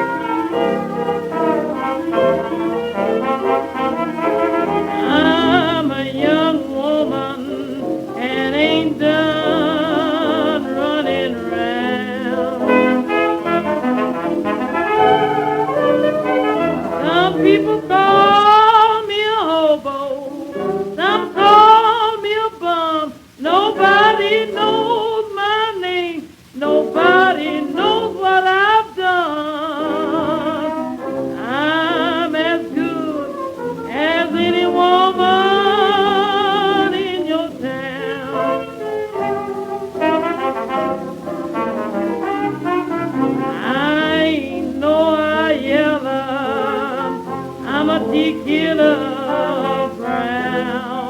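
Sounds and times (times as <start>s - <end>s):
old blues band recording: 0.0s - 51.0s.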